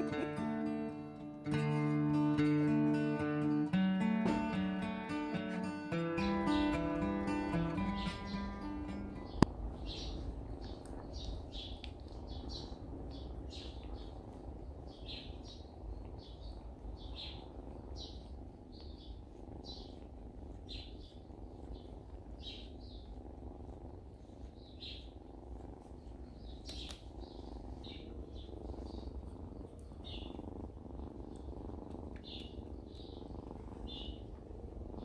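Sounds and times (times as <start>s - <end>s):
cat purring: 0.0s - 35.0s
small birds chirping: 0.0s - 35.0s.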